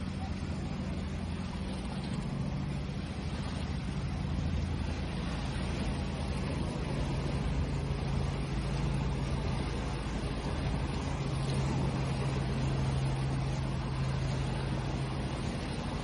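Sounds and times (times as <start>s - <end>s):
low steady hum: 0.0s - 16.0s
ocean waves washing in: 0.0s - 16.0s.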